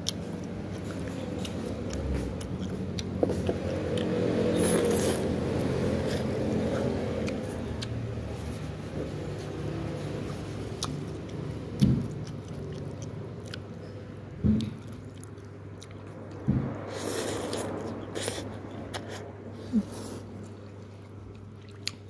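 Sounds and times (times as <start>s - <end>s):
person chewing noodles: 0.0s - 22.0s.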